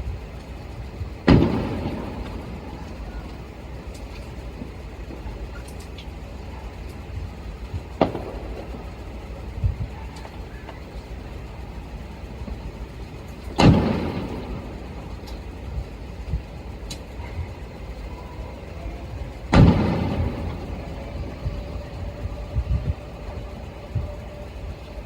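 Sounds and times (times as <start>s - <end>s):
distant fireworks booming: 0.0s - 25.0s
steady low rumble: 0.0s - 25.0s.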